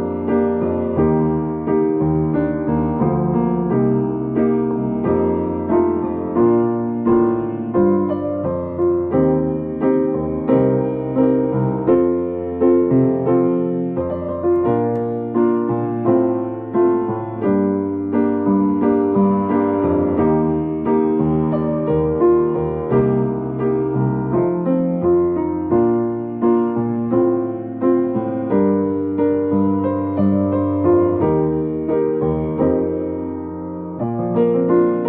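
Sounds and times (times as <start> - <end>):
piano melody over chords: 0.0 - 35.0.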